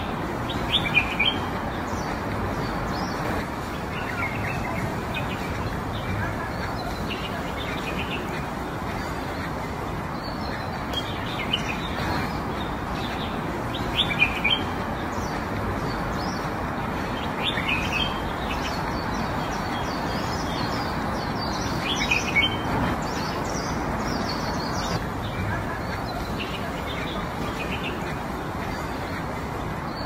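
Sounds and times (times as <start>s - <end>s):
small birds chirping: 0.0s - 30.0s
steady outdoor hiss: 0.0s - 30.0s.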